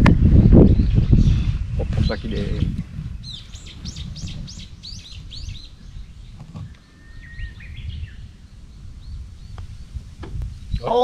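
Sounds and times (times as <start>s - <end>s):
birds singing: 0.0s - 11.0s
wind rumble on microphone: 0.0s - 11.0s.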